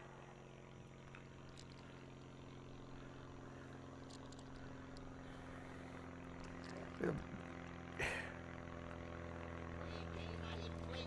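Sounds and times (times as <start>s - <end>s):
faint engine drone: 0.0s - 11.0s.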